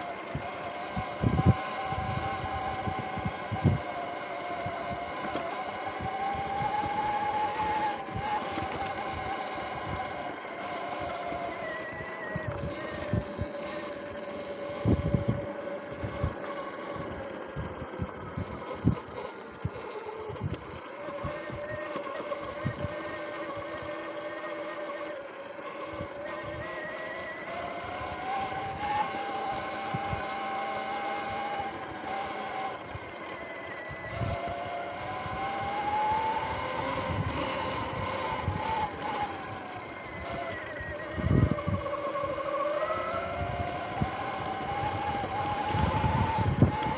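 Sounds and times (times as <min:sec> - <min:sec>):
electric bike motor whining: 0:00.0 - 0:46.9
bike bouncing over rough grass: 0:00.1 - 0:46.9.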